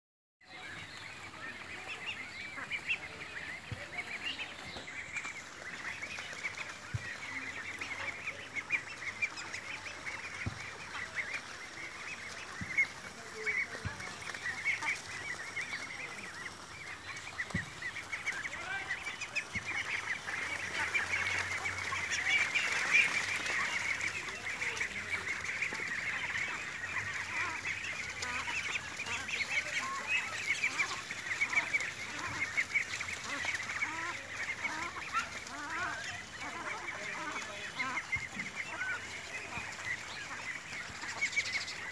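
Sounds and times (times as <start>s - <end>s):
ducklings quacking: 0.5s - 41.9s.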